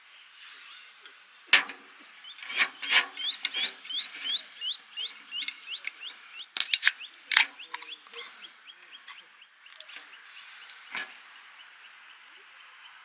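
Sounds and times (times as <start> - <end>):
bird chirping: 1.9 - 13.0.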